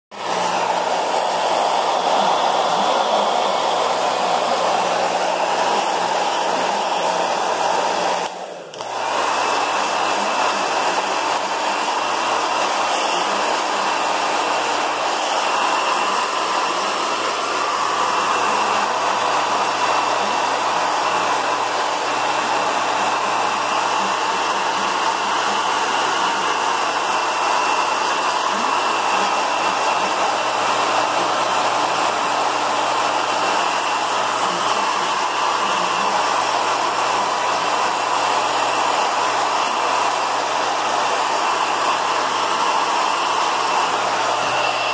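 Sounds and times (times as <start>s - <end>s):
hair dryer blowing air: 0.1s - 44.9s.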